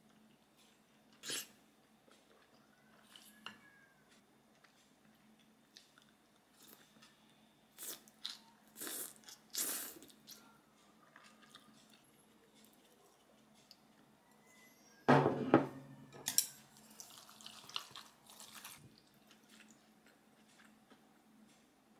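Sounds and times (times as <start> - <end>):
person chewing food: 0.0 - 14.1, 16.8 - 21.7.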